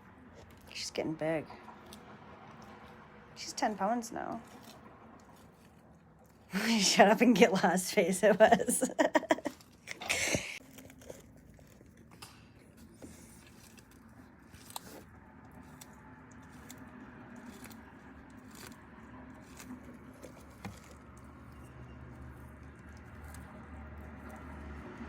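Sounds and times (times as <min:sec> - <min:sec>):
tortoise chewing: 0:00.0 - 0:25.0.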